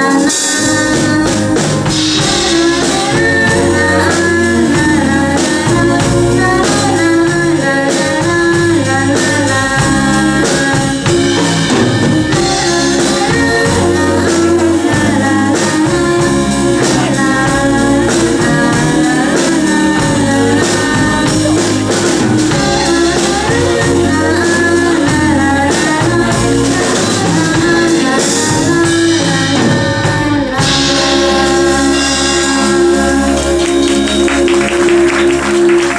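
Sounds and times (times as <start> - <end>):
live band playing pop song: 0.0 - 35.9
person singing: 0.0 - 35.9.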